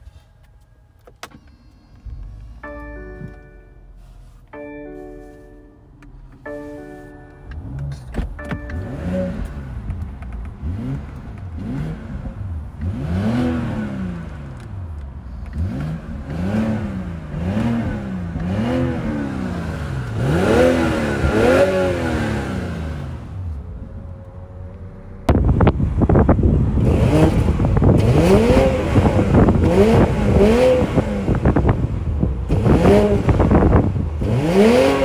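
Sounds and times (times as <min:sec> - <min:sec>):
car engine revving: 0:05.9 - 0:35.0.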